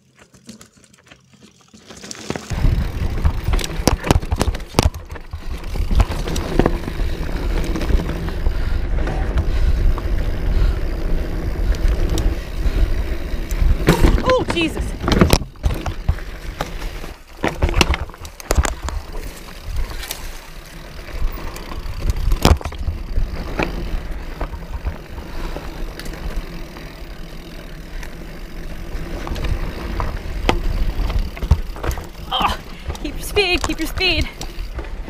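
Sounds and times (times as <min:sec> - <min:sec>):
bike clacking and rattling on rocks: 0:00.0 - 0:35.0
bike tyre rumble on dirt: 0:00.0 - 0:35.0.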